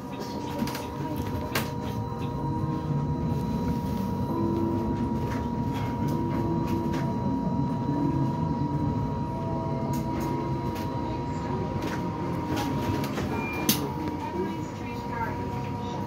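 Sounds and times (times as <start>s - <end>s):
electric bus whine and rumble: 0.0s - 16.0s.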